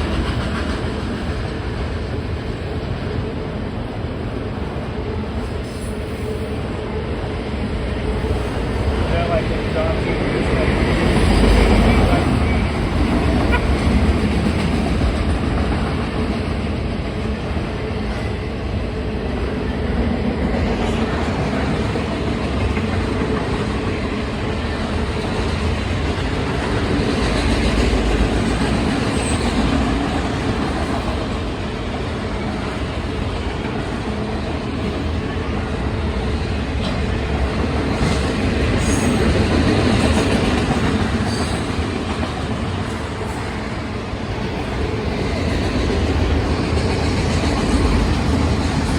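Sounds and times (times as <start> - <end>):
freight train wheels rumbling: 0.0 - 48.9.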